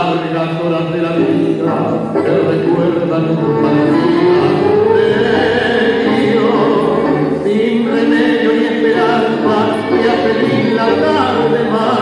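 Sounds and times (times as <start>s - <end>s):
person singing: 0.0s - 12.0s
tango song with orchestra: 0.0s - 12.0s.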